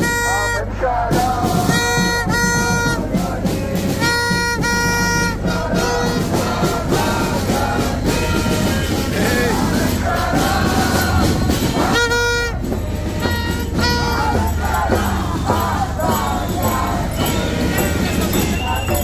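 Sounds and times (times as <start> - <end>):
brass horn blasts: 0.0 - 19.0
drumming: 0.0 - 19.0.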